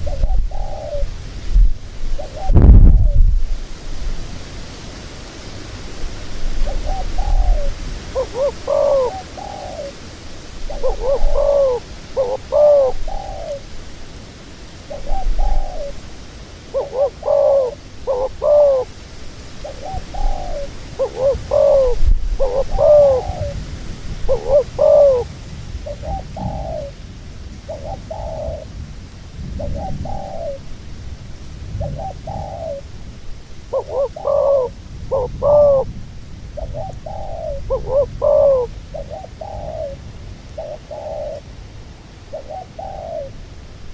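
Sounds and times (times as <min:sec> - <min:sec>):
doves cooing: 0:00.0 - 0:03.2, 0:06.5 - 0:13.8, 0:14.7 - 0:27.0, 0:27.6 - 0:28.7, 0:29.6 - 0:30.7, 0:31.7 - 0:36.0, 0:36.6 - 0:43.4.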